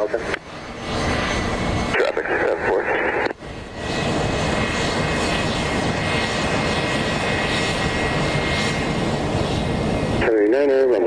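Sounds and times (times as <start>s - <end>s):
airplane engine rushing and whining: 0.0s - 11.0s.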